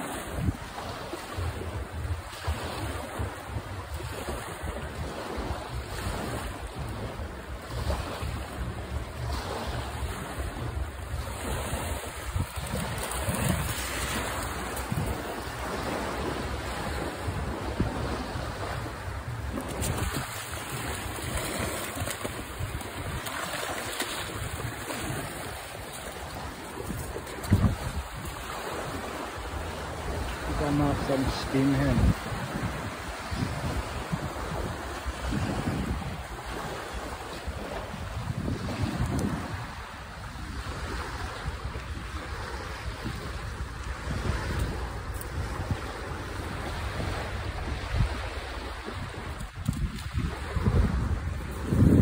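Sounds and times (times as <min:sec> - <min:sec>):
small waves breaking on a beach: 0:00.0 - 0:52.0
wind buffeting the microphone: 0:00.0 - 0:52.0.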